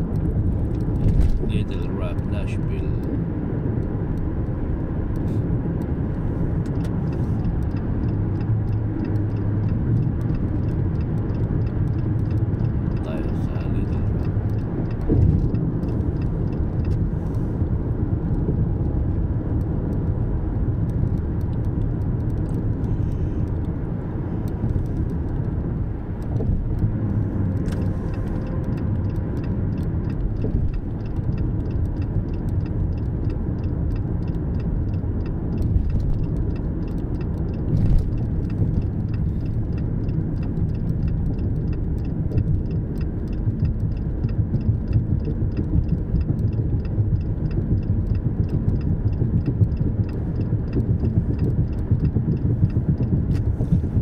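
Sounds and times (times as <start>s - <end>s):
road and engine rumble: 0.0s - 54.0s
rapid even ticking: 3.8s - 54.0s.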